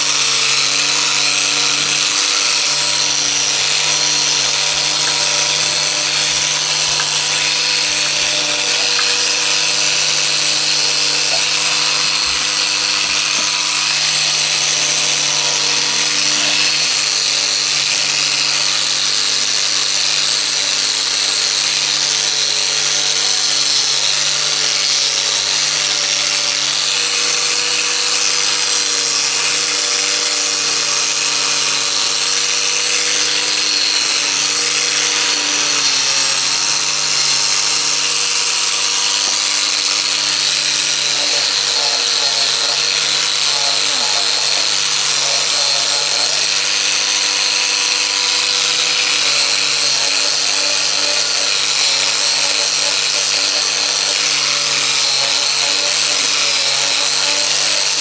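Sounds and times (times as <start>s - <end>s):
power tool running: 0.0s - 58.0s.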